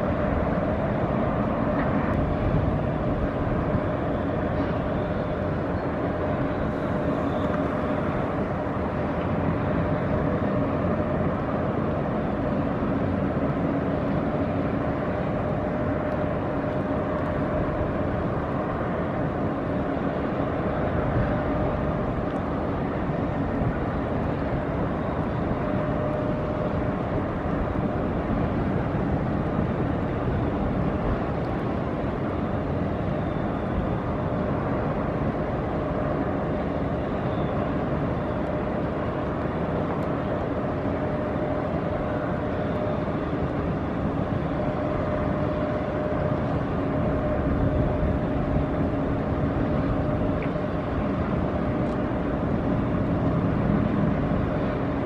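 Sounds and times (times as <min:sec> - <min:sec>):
ship diesel engine droning: 0:00.0 - 0:55.0.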